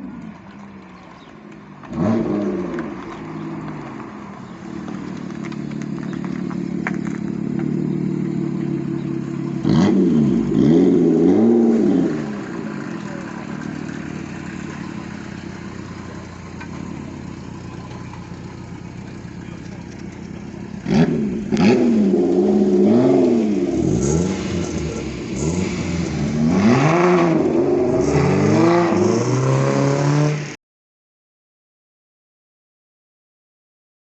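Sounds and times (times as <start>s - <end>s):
car engines revving: 0.0s - 30.6s.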